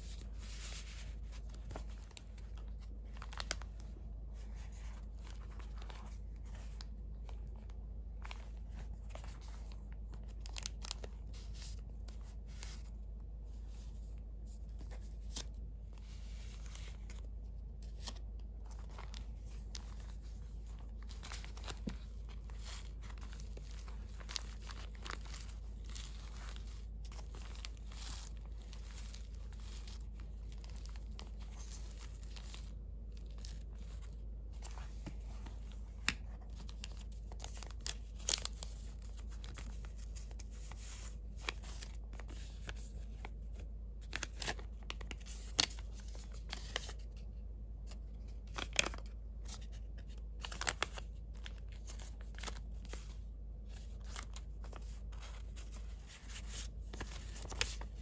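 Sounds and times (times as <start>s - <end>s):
paper rustling and crinkling: 0.0s - 58.0s.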